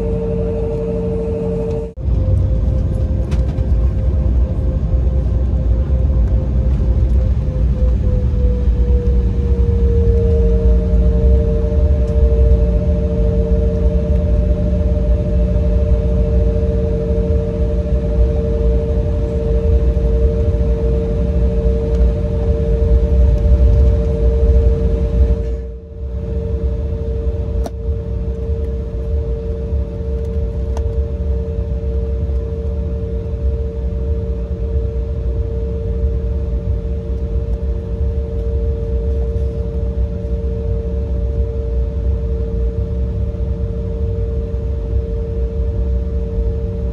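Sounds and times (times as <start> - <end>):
jet cabin rumble: 0.0 - 46.9
jet engine whine: 0.0 - 46.9.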